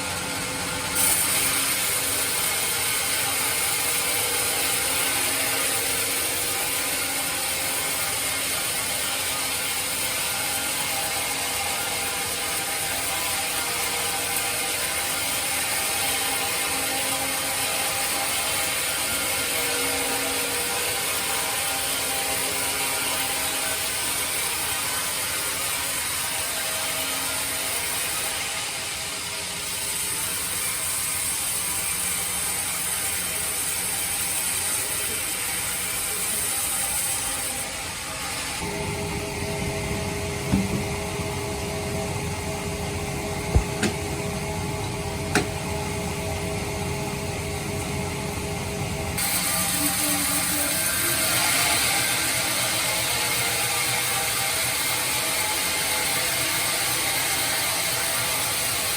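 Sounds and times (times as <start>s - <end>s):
bandsaw running: 0.0s - 58.9s.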